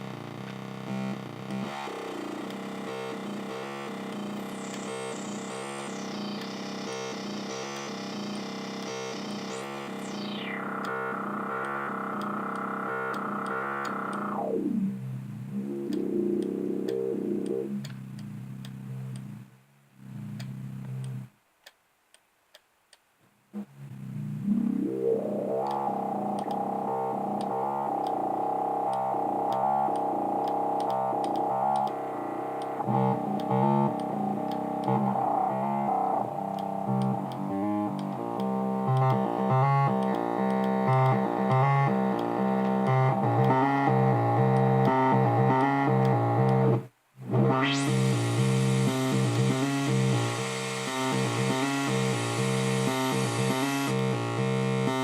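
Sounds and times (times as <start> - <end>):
synthesizer chord pulsing: 0.0 - 19.3, 23.6 - 55.0.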